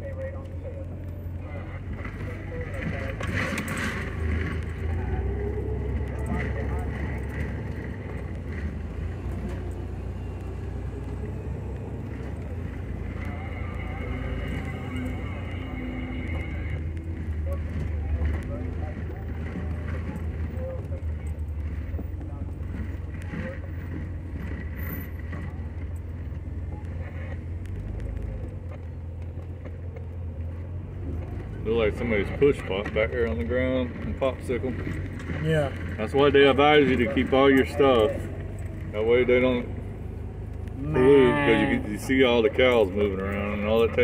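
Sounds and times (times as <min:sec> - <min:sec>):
tyres rumbling on dirt trail: 0:00.0 - 0:44.0
vehicle engine running: 0:00.0 - 0:44.0.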